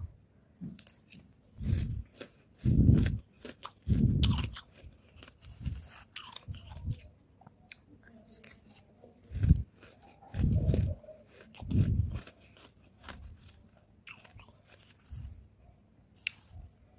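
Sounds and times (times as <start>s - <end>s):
crunching and chewing frost: 0.8s - 15.5s, 16.2s - 16.6s.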